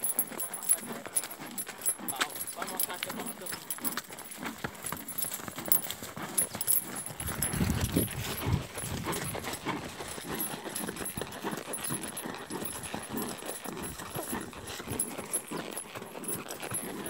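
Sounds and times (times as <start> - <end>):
horse hooves thudding on dirt: 0.0 - 17.0.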